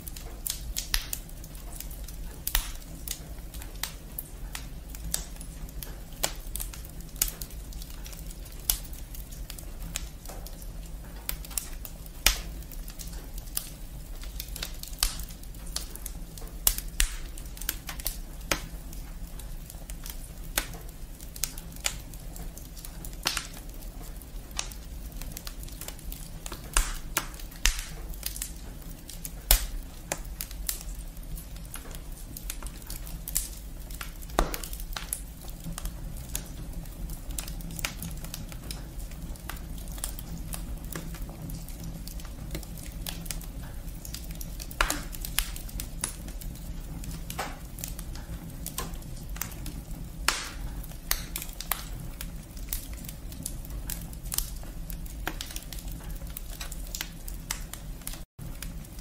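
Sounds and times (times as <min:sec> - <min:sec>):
loud snaps of burning wood: 0:00.0 - 0:59.0
wood fire crackling: 0:00.0 - 0:59.0.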